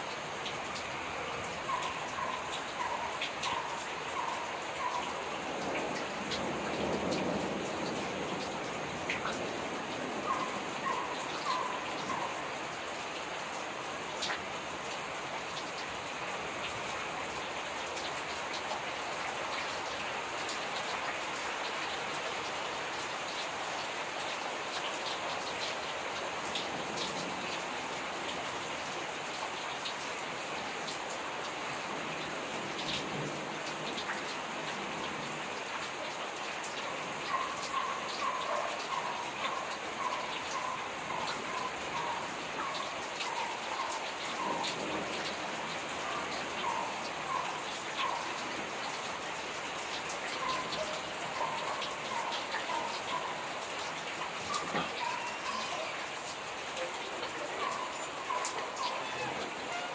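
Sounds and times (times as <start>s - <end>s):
steady rain: 0.0s - 59.9s
raindrop ticks: 0.1s - 59.9s.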